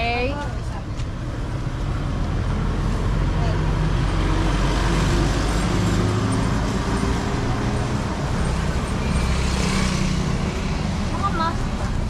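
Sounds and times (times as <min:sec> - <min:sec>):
street noise rush: 0:00.0 - 0:12.0.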